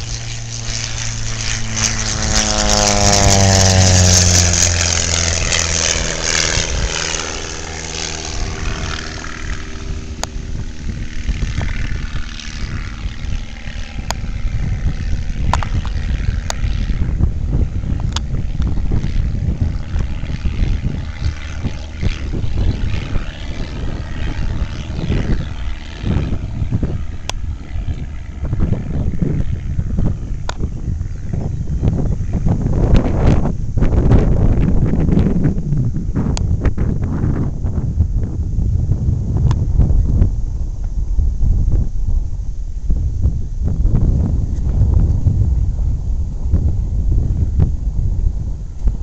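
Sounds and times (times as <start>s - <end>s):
propeller plane passing overhead: 0.0s - 49.0s.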